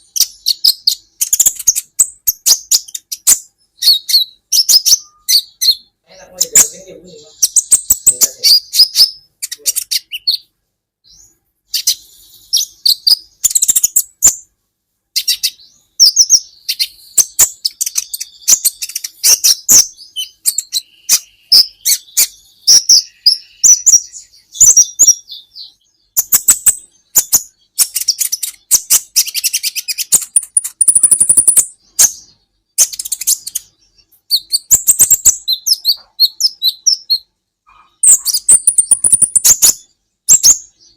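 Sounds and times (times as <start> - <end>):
sunbird chirping and trilling: 0.0 - 40.9.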